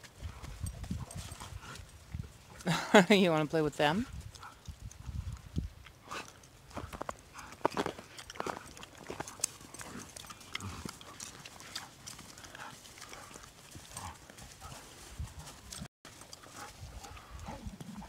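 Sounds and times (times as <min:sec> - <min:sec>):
paws crunching on snow: 0:00.0 - 0:03.3, 0:03.9 - 0:18.0.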